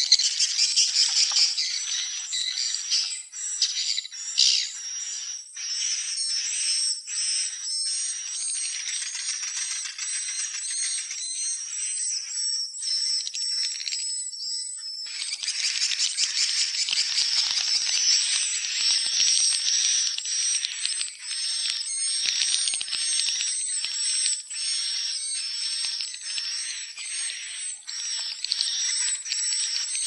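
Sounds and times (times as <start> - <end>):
swiftlets twittering and clicking: 0.0 - 14.2, 15.0 - 30.0.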